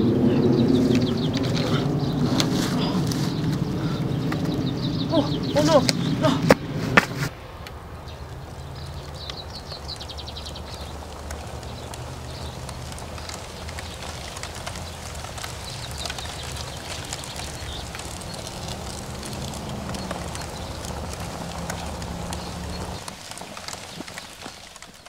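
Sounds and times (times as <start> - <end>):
light crackles: 0.0 - 25.0
rapid ticks: 0.6 - 25.0.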